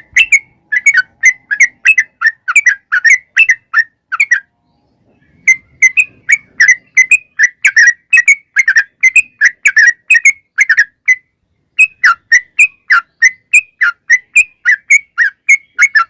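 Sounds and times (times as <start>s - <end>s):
bird singing bubbly whistles: 0.0s - 4.5s, 5.2s - 16.0s.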